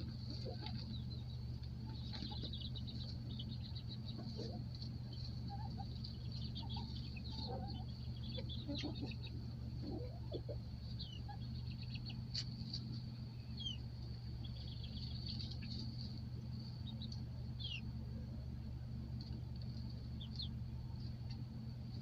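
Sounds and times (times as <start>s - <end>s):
baby chicks peeping: 0.0s - 22.0s
steady low hum: 0.0s - 22.0s.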